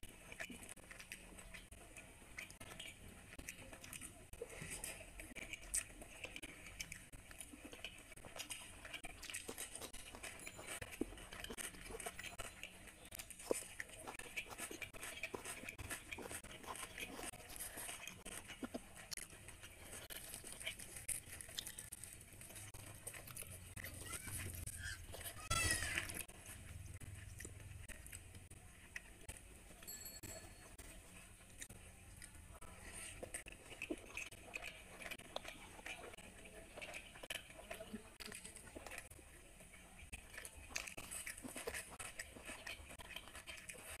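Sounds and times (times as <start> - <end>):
chewing and wet mouth sounds: 0.0 - 44.0.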